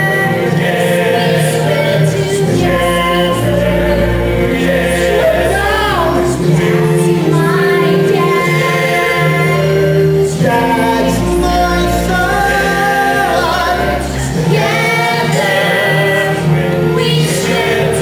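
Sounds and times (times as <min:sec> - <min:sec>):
ensemble singing in chorus: 0:00.0 - 0:18.0
instrumental accompaniment: 0:00.0 - 0:18.0.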